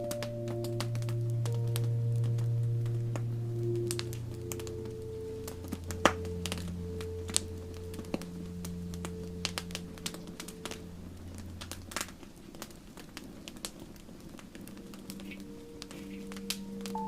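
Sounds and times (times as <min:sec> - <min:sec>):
low music chord: 0:00.0 - 0:12.2, 0:14.6 - 0:17.0
burning wood popping: 0:00.0 - 0:17.0
campfire crackling: 0:00.0 - 0:17.0.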